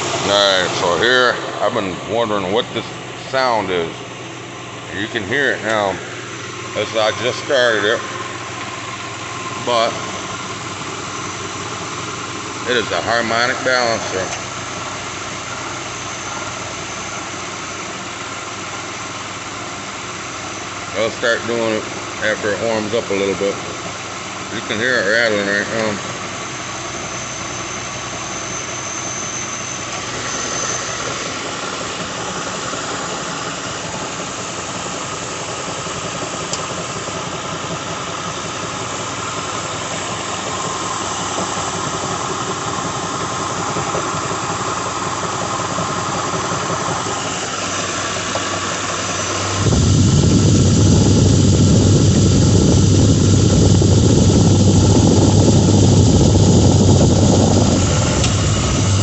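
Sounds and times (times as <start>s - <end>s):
car engine idling: 0.0s - 59.0s
whirring rattle from engine: 0.0s - 59.0s.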